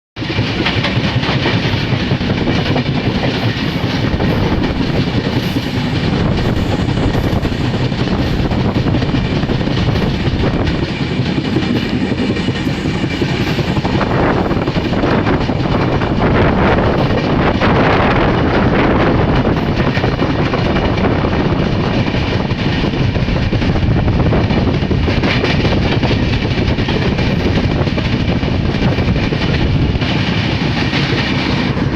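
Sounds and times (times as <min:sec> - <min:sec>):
train rumbling on rails: 0:00.2 - 0:31.9.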